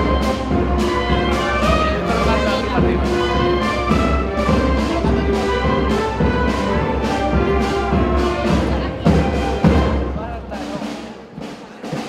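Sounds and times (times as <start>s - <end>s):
brass band chords: 0.0s - 12.0s
steady drum beat: 0.0s - 12.0s.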